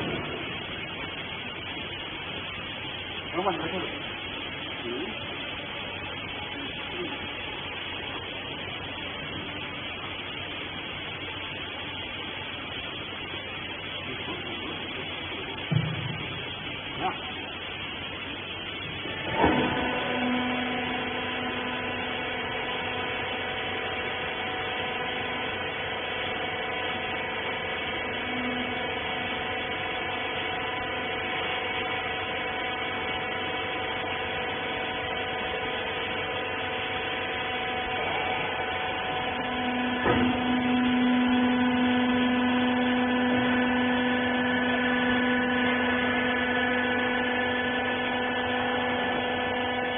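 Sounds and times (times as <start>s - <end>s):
hydraulic pump motor humming: 0.0s - 49.9s.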